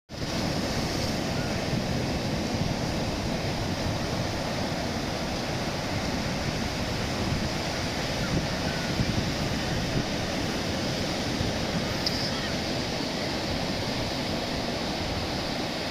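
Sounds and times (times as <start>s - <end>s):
ocean waves breaking: 0.1s - 15.9s.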